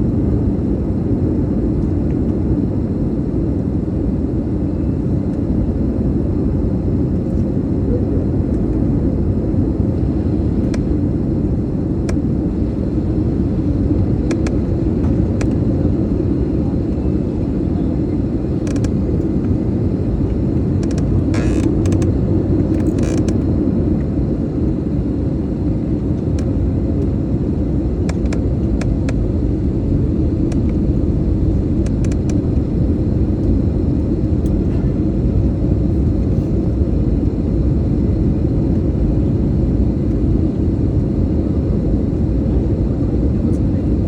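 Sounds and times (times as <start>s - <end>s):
faint steady hum: 0.0s - 44.0s
jet engines rumbling: 0.0s - 44.0s.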